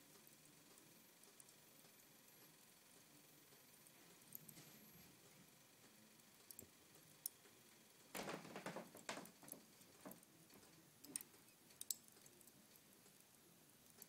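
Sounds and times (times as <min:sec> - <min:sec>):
wood fire crackling and popping: 0:00.0 - 0:01.9, 0:04.1 - 0:14.0.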